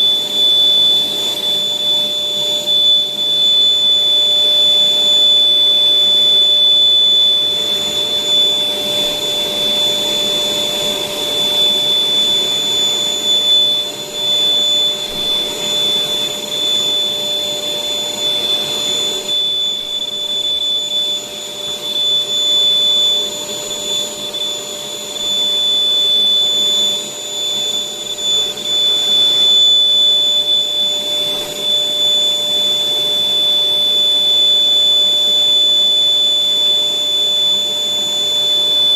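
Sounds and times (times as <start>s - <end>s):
electric air blower whining: 0.0s - 38.9s.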